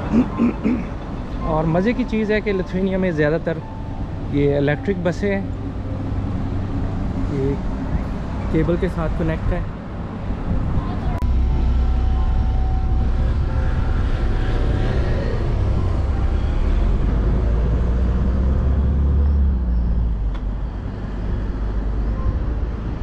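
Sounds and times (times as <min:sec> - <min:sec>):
road traffic rumbling: 0:00.0 - 0:23.0.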